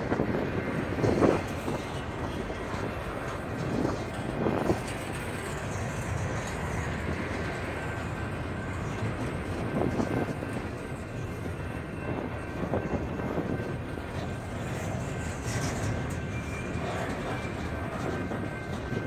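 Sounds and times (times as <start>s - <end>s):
train cars clattering: 0.0s - 19.0s
train wheels rumbling on rail: 0.0s - 19.0s.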